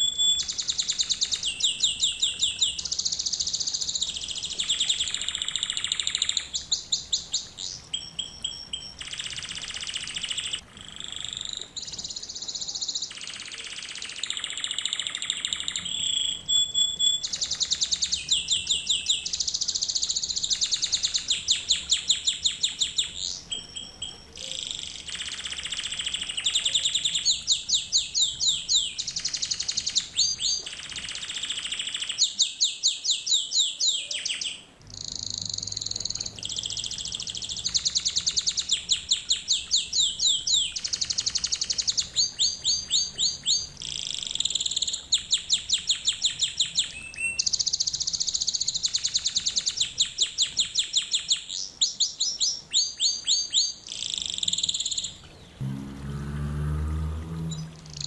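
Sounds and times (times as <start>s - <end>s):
canary singing trills: 0.0s - 55.6s, 57.4s - 58.0s.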